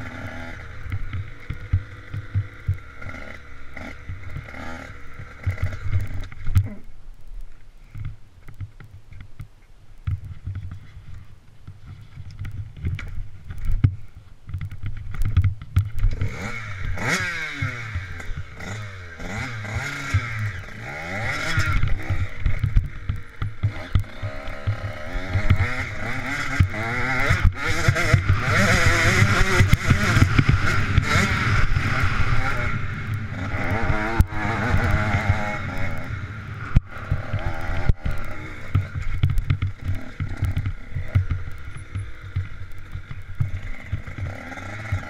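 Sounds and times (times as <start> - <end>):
dirt bike engine revving: 0.0 - 6.9, 15.1 - 45.0.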